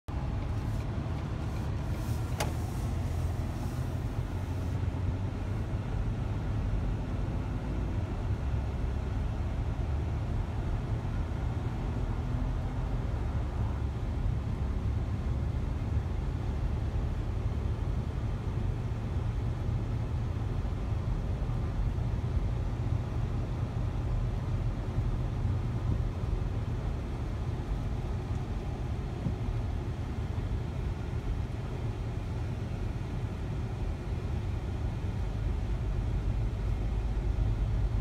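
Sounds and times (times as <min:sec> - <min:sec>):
vehicle cabin road rumble: 0:00.1 - 0:38.0.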